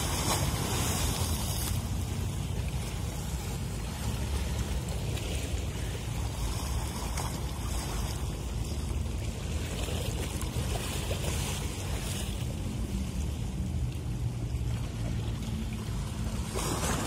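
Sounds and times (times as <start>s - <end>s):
ship engine droning: 0.0s - 17.0s
wind: 0.0s - 17.0s.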